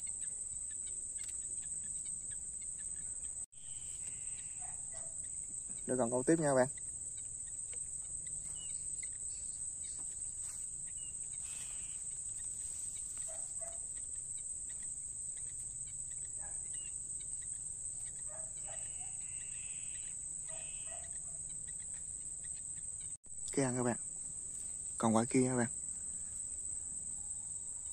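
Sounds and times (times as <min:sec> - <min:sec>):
faint bird calls: 0:00.0 - 0:24.0
insects high-pitched drone: 0:00.0 - 0:27.9.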